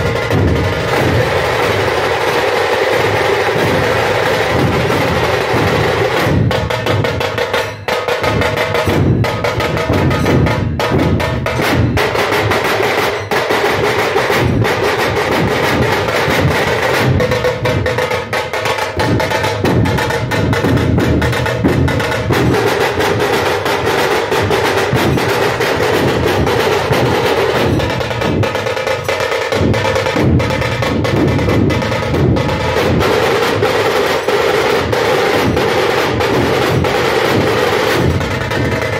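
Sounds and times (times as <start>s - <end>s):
dhol drums beaten together: 0.0s - 38.9s.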